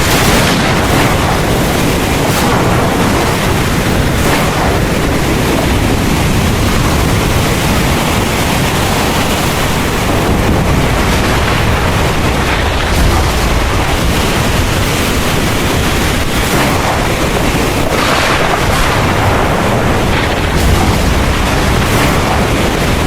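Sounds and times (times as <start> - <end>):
deep rumble: 0.0 - 23.0
heavy rain pouring: 0.0 - 23.0.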